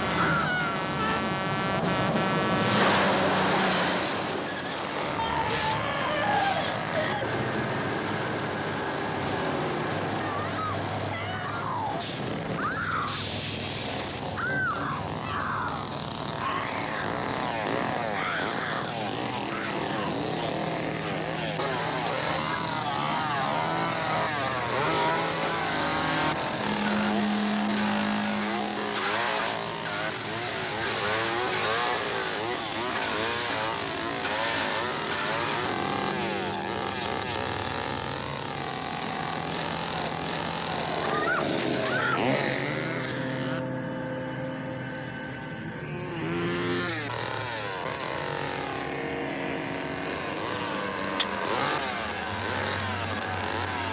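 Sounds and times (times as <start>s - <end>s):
engine drone: 0.0s - 53.9s.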